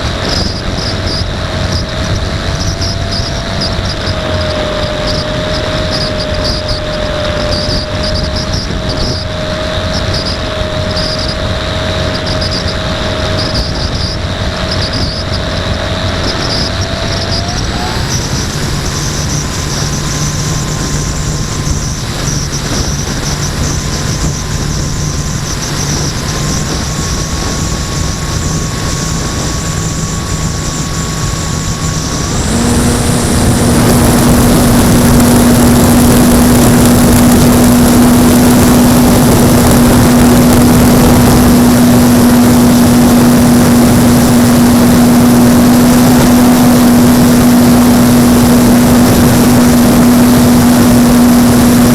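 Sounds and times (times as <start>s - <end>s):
electric motor and propeller hum: 0.0s - 51.9s
wind noise: 0.0s - 51.9s.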